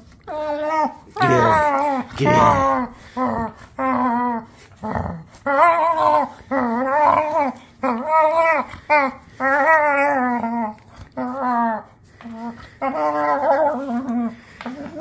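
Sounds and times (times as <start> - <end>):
dog howling: 0.3 - 15.0.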